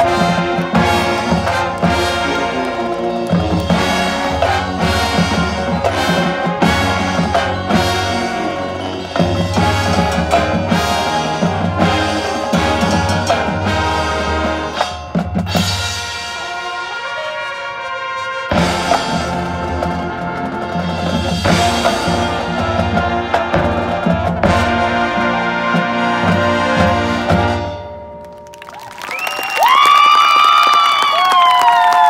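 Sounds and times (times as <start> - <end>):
marching band brass and percussion: 0.0 - 32.0.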